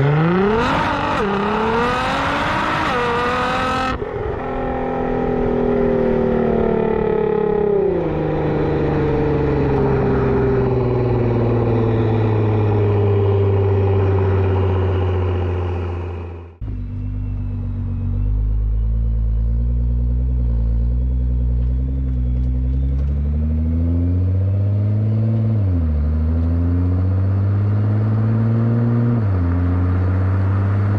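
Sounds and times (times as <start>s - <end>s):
car engine accelerating hard: 0.0s - 30.9s.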